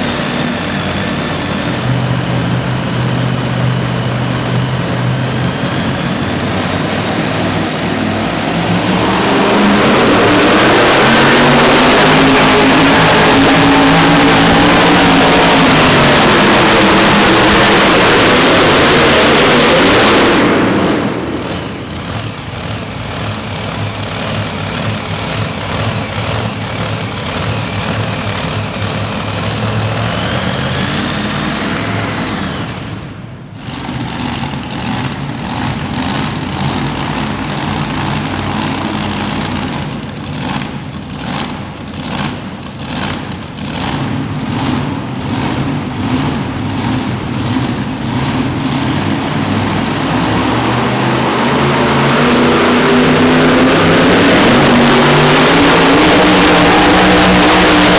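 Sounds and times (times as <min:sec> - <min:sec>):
truck engine running hard: 0:00.0 - 0:57.9.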